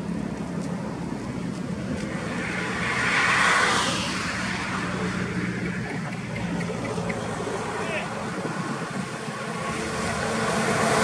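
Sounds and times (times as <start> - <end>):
car passing at speed: 2.0 - 11.0.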